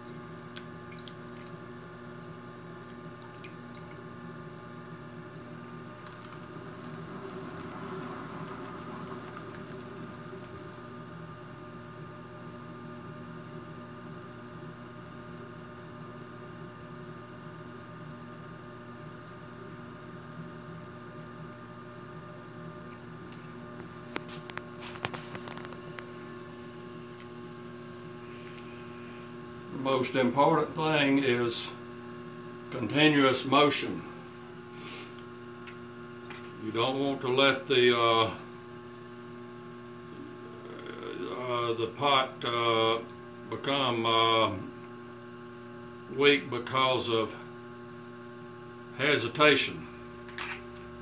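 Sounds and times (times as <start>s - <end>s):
potter's wheel humming: 0.0s - 51.0s.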